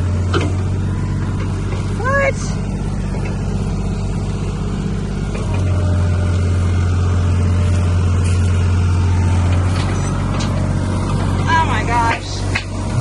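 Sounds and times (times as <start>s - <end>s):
backhoe engine running: 0.0s - 13.0s.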